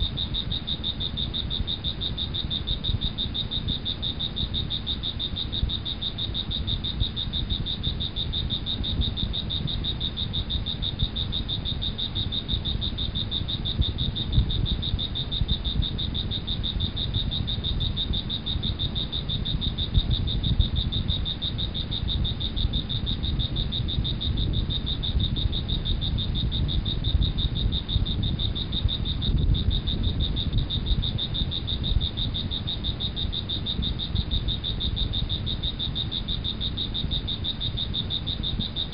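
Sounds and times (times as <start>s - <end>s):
constant low rumble: 0.0s - 38.9s.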